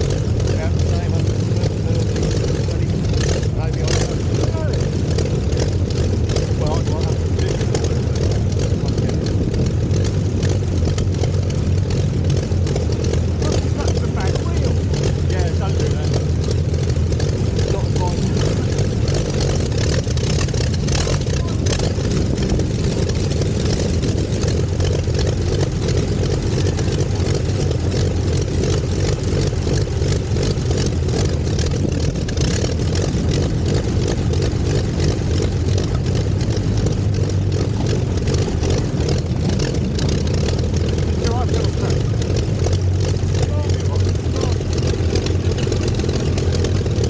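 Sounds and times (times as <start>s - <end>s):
aero engine running at low revs: 0.0s - 47.0s.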